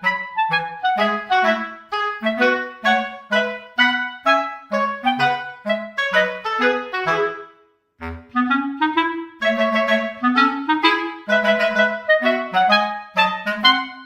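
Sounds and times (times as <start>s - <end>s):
reed wind instrument melody: 0.0s - 14.0s.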